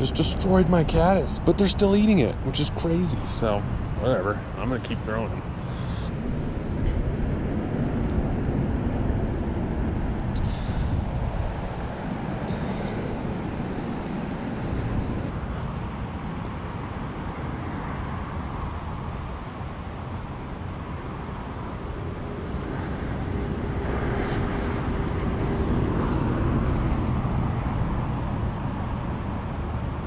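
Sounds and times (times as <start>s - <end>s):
rumbling outdoor noise: 0.0s - 30.0s.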